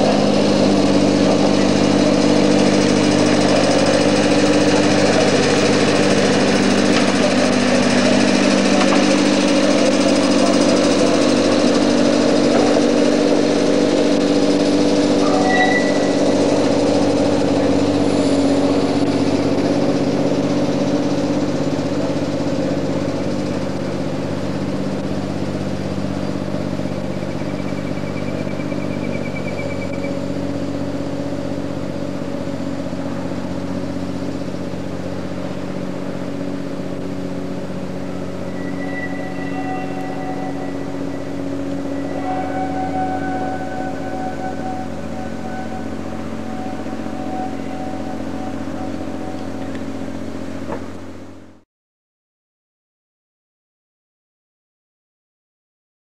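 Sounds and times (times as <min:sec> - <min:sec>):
tram engine running: 0:00.0 - 0:51.6.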